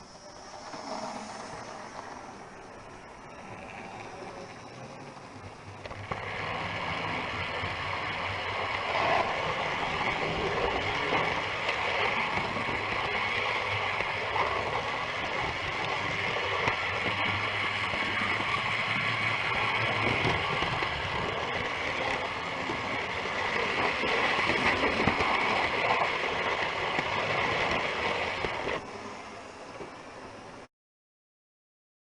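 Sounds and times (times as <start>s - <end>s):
wheels rumbling on rail: 0.0s - 30.7s.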